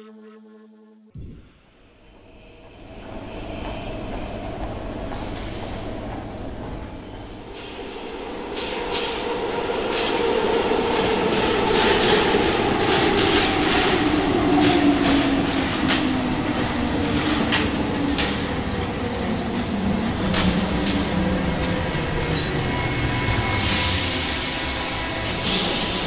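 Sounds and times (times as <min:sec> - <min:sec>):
metro train running noise: 0:01.2 - 0:26.0.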